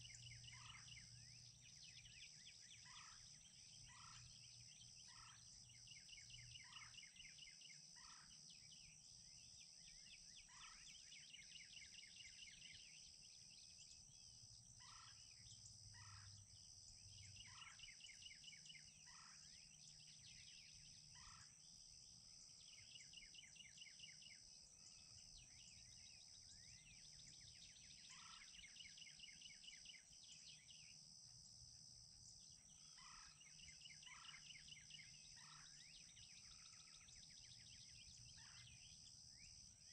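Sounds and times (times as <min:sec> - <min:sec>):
bird calls and trills: 0:00.0 - 0:39.9.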